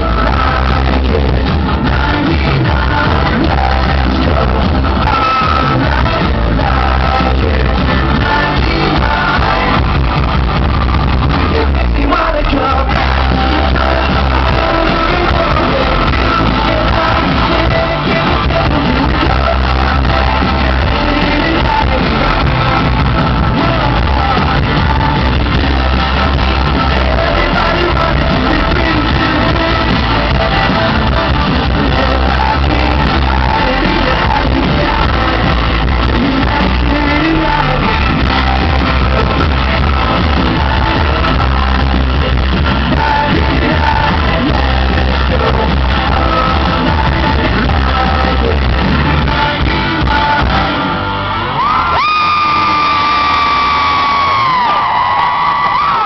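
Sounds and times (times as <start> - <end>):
live pop-rock band: 0.0 - 56.0
man singing: 0.0 - 56.0.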